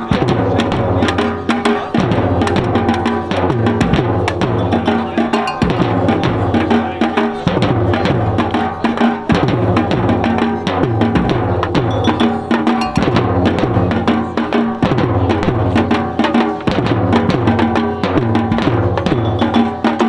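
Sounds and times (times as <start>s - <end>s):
bass drums beating: 0.0s - 20.0s
snare drums: 0.0s - 20.0s.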